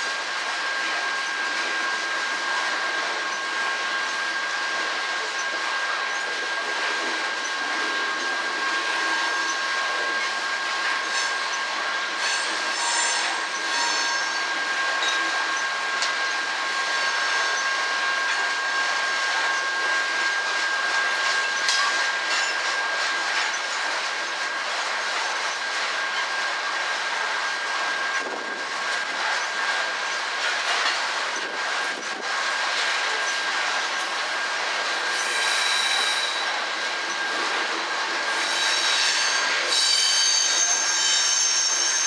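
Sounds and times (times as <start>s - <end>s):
train wheels rattling on rails: 0.7s - 42.0s.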